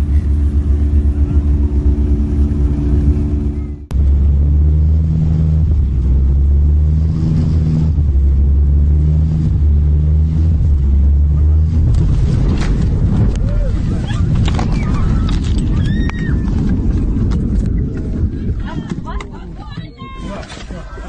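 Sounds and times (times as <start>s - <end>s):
vehicle engine rumble from inside: 0.0s - 21.0s.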